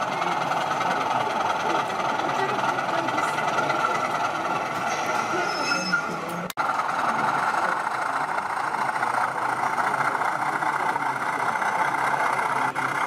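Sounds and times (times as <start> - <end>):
hall crowd hubbub: 0.0 - 13.0
model train diesel engine sound: 0.0 - 13.0.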